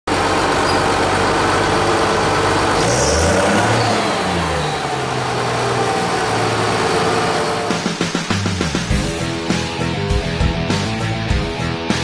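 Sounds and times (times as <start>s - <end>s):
tractor diesel engine running: 0.1s - 10.9s.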